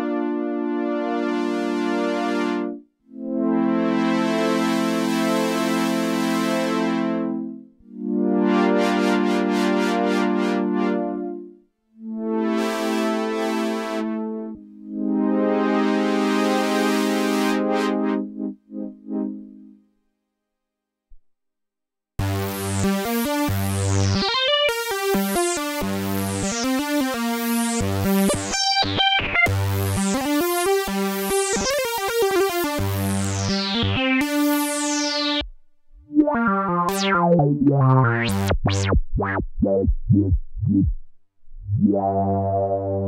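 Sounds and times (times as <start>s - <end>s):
analog synthesizer notes: 0.0s - 19.7s, 22.2s - 43.0s.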